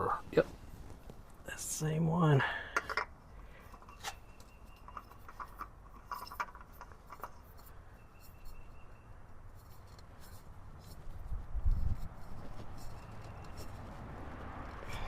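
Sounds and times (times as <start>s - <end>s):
oil filter clicks and scrapes: 2.7s - 15.0s.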